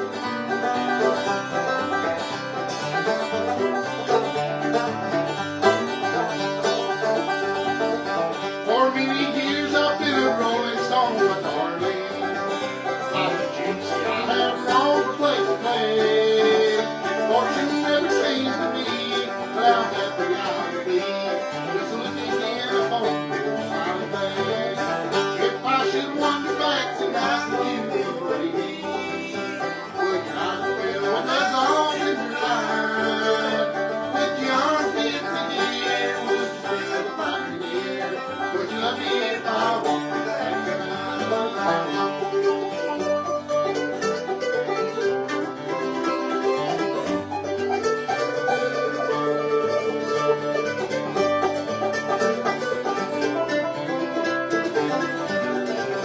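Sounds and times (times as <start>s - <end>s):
acoustic guitar: 0.0s - 56.0s
fast-picked banjo: 0.0s - 56.0s.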